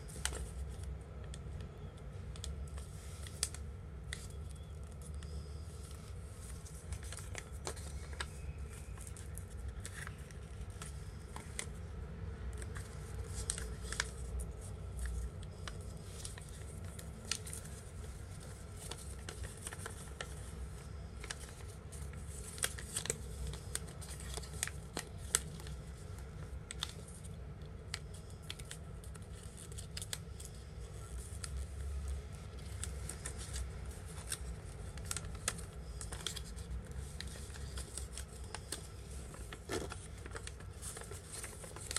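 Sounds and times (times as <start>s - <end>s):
low steady hum: 0.0s - 41.9s
paper rustling and creasing: 0.0s - 41.9s.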